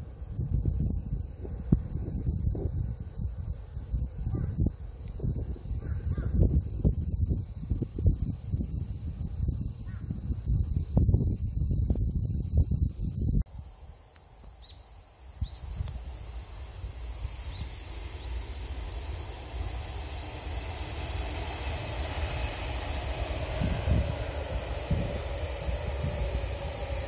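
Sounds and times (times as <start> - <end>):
high-speed train approaching: 0.0 - 12.2, 13.4 - 27.0
wind buffeting microphone: 0.0 - 13.5, 15.4 - 27.0
insects chirping: 0.0 - 27.0.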